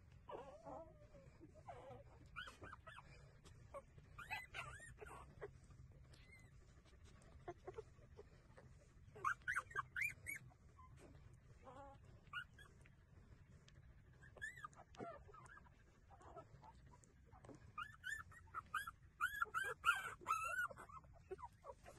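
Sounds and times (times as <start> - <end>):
faint low hum: 0.0 - 21.9
puppies squeaking and whimpering: 0.3 - 6.6, 7.4 - 12.8, 14.2 - 21.9.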